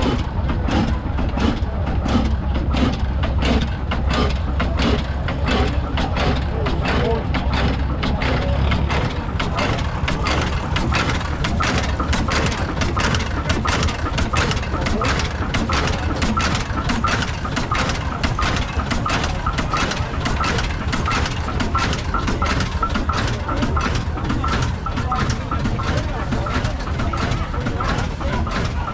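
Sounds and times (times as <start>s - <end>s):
low engine rumble: 0.0s - 28.9s
oil engine knocking: 0.0s - 28.9s.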